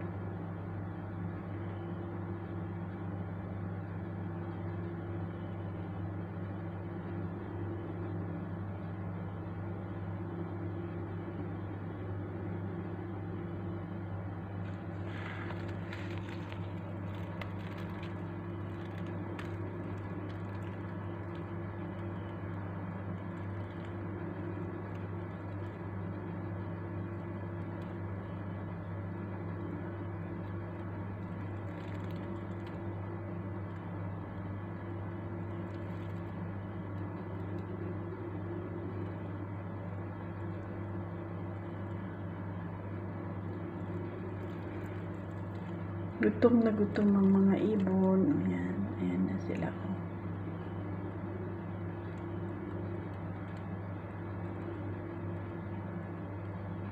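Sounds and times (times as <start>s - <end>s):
low mechanical hum: 0.0s - 56.9s.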